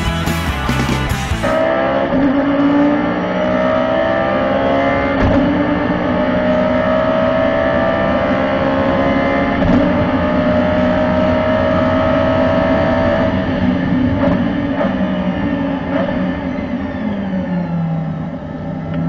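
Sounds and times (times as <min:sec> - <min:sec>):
race car engine at full throttle: 0:00.0 - 0:19.0.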